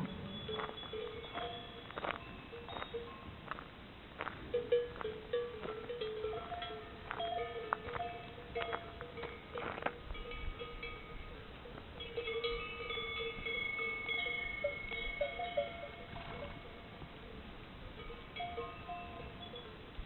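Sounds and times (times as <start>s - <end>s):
cow bells clanking and ringing: 0.0s - 3.6s, 4.2s - 17.0s, 18.0s - 19.9s.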